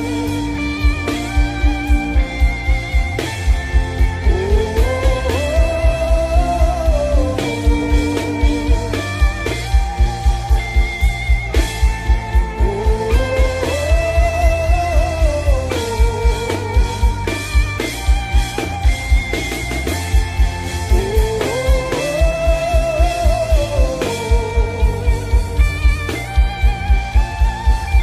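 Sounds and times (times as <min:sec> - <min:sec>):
instrumental worship music: 0:00.0 - 0:28.0
low drum beat: 0:00.0 - 0:28.0.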